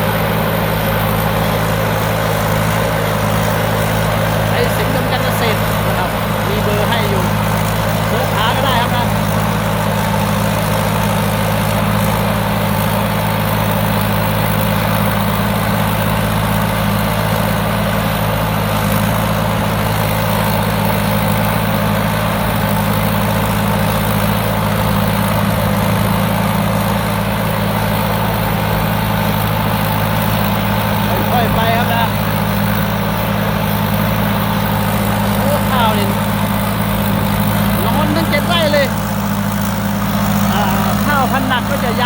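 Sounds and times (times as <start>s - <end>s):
harvester engine running: 0.0s - 42.0s.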